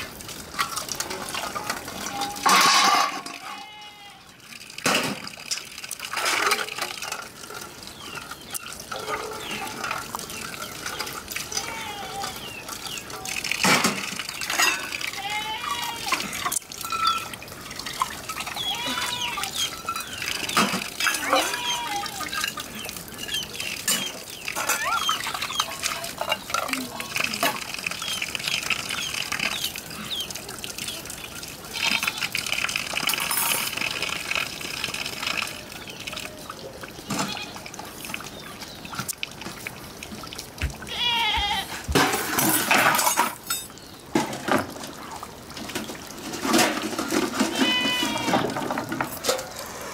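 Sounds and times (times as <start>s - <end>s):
water splashing and trickling: 0.0s - 49.9s.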